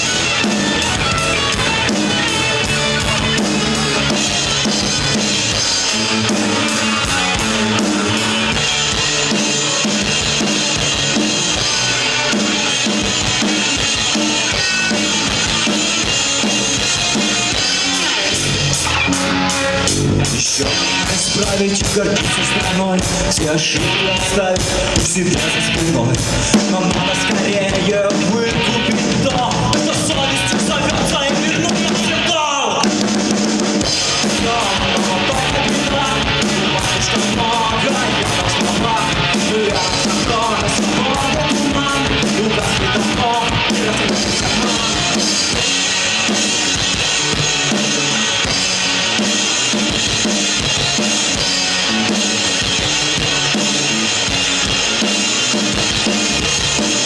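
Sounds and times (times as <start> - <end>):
live rock band instrumental: 0.0 - 57.0.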